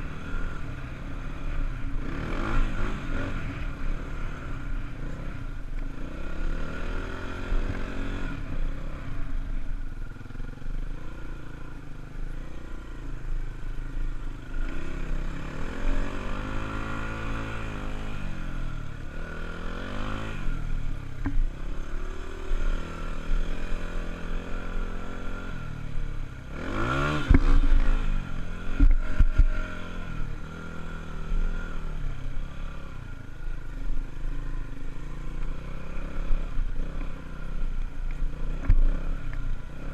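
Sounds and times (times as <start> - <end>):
dirt bike engine revving: 0.0 - 9.4, 14.6 - 20.9, 21.6 - 39.9.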